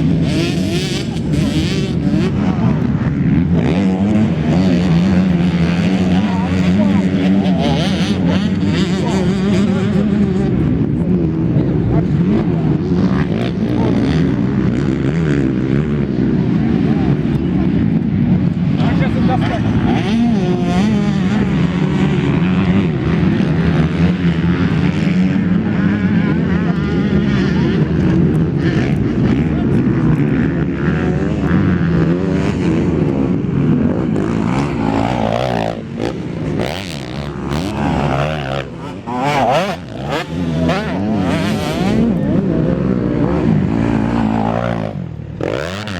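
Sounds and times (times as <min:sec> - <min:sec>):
motorcycles racing and revving: 0:00.0 - 0:45.9.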